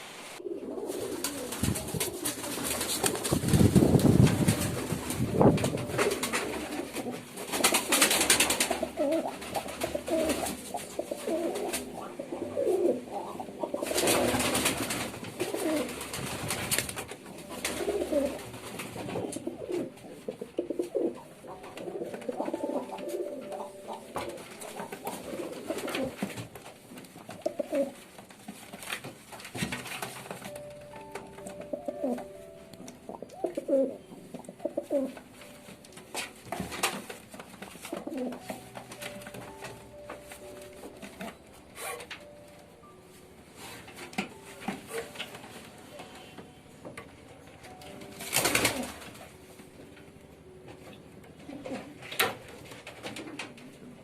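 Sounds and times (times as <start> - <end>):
pigeons cooing: 0.3 - 42.2, 48.1 - 50.0, 50.6 - 54.0.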